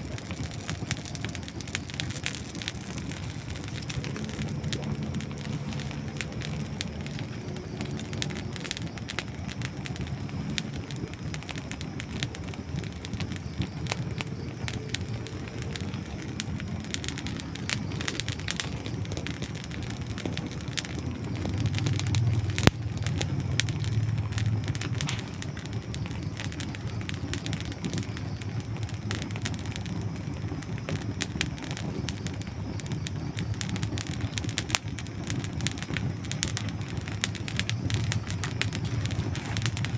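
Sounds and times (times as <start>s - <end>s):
campfire crackling and snapping: 0.0s - 39.9s
low rumble of flame: 0.0s - 39.9s.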